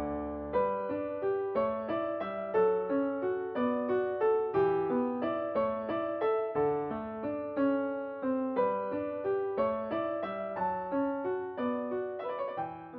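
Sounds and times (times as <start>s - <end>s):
gentle slow piano music: 0.0s - 12.9s.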